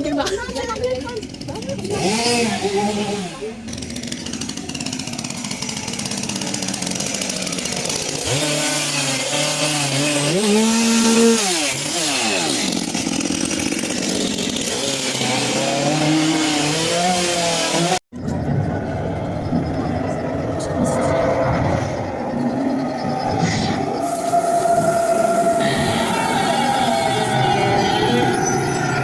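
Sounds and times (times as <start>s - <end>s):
chainsaw engine revving: 0.5s - 29.0s.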